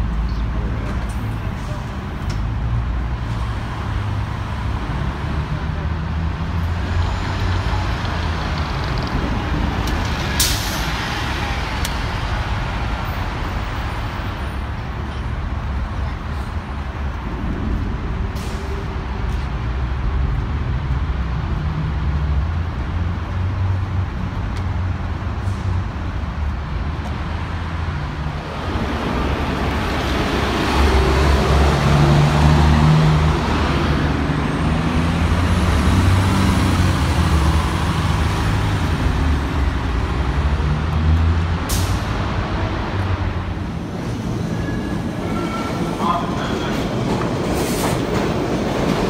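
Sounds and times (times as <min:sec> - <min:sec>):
bus engine rumble: 0:00.0 - 0:49.0.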